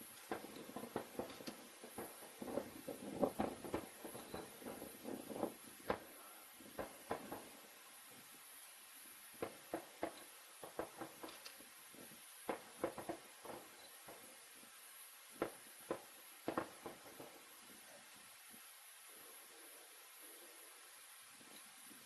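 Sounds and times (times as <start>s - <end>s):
distant fireworks popping: 0.0s - 20.7s
faint steady hiss: 0.0s - 22.0s.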